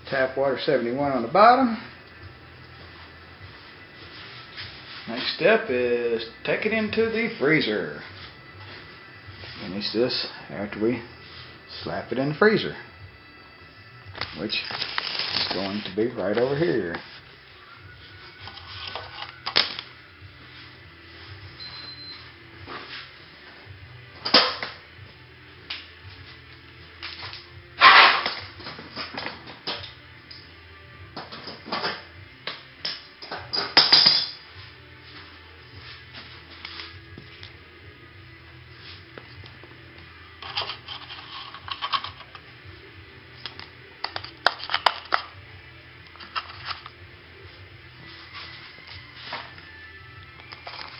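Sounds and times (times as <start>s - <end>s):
faint background music: 0.0s - 50.9s.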